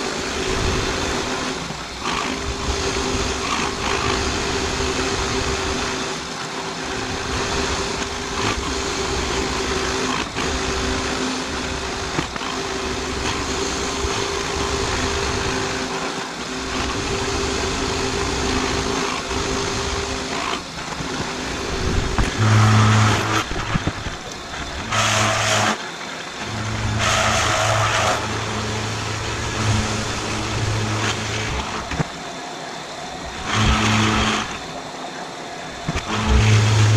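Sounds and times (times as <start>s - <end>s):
end mill cutting steel: 0.0s - 36.9s
milling machine motor hum: 0.0s - 36.9s.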